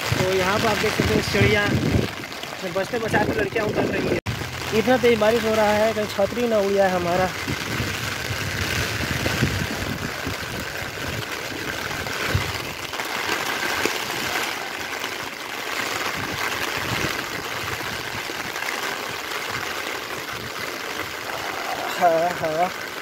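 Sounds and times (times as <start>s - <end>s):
heavy rain falling: 0.0s - 23.0s
rainwater running over pavement: 0.0s - 23.0s.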